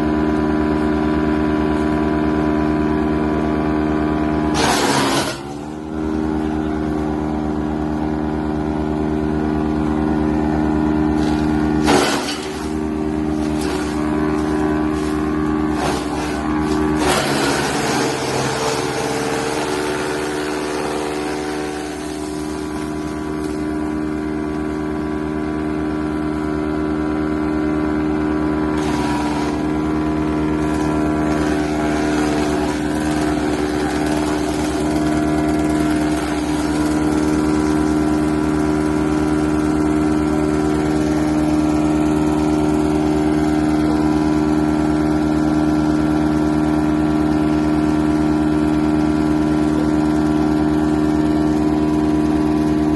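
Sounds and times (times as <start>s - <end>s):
tractor engine running: 0.0s - 52.9s
wood chipper humming: 0.0s - 52.9s.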